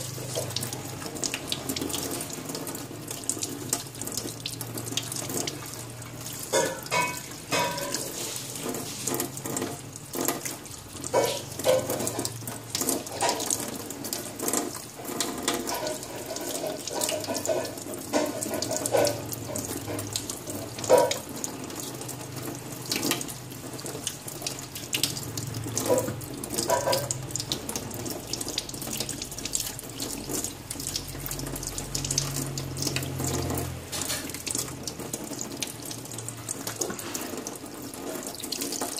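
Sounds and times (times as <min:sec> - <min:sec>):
tap water running into sink: 0:00.0 - 0:38.9
water splashing: 0:00.0 - 0:38.9.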